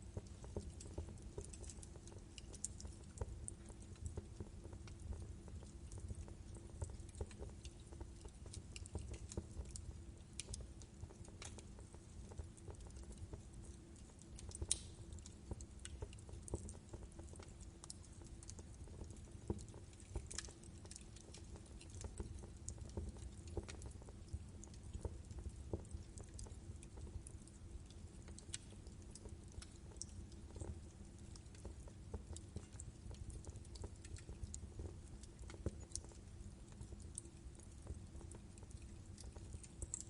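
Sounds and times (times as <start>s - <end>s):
logs crackling and popping: 0.0s - 40.0s.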